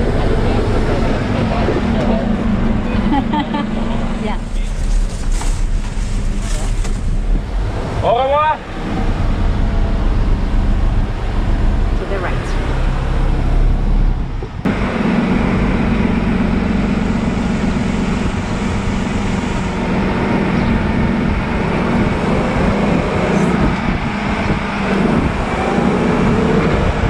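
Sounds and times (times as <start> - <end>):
road and wind noise: 0.0 - 27.0
truck engine drone: 0.0 - 27.0.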